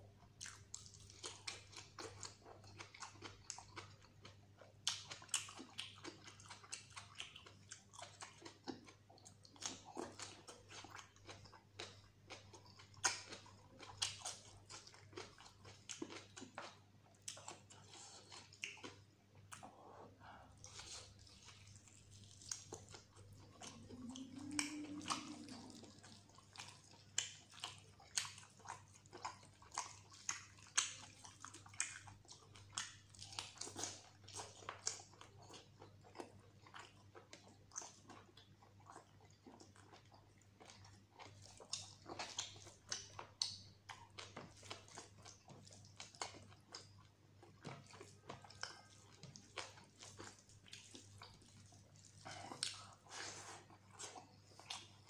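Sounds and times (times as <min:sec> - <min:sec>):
wet chewing and biting: 0:00.4 - 0:19.8, 0:20.6 - 0:55.0.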